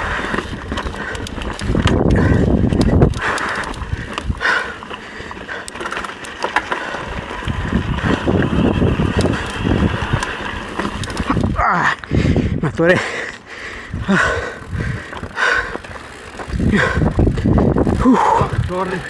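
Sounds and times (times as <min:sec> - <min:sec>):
bike frame rattling: 0:00.0 - 0:19.0
bike tyres crunching on trail: 0:00.0 - 0:19.0.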